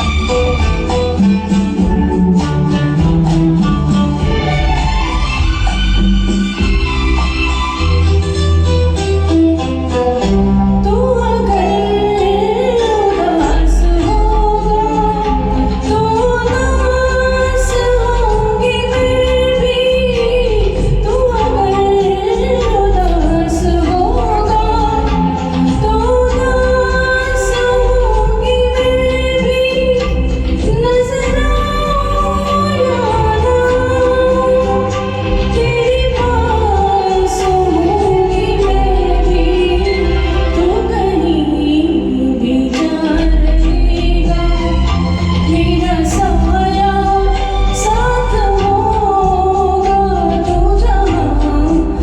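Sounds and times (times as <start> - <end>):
bass: 0.0 - 52.0
light percussion: 0.0 - 52.0
woman singing: 10.2 - 52.0.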